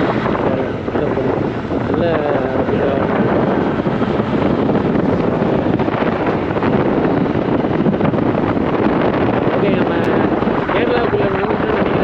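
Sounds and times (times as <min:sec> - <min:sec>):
motorcycle engine running: 0:00.0 - 0:12.0
wind rushing over microphone: 0:00.0 - 0:12.0.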